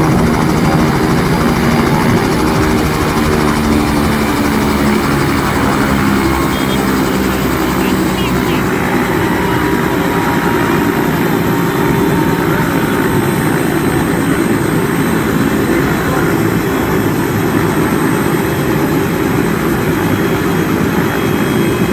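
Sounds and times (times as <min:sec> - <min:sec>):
helicopter rotor and engine: 0:00.0 - 0:21.9
high turbine whine: 0:00.0 - 0:21.9.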